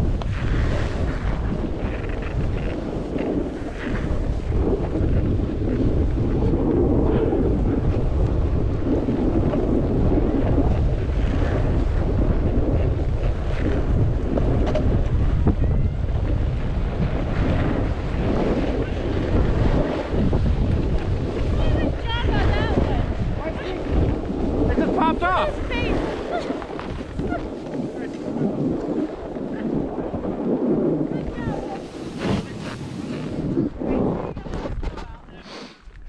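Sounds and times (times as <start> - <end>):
skis sliding on snow: 0.0 - 36.0
wind buffeting microphone: 0.0 - 36.0.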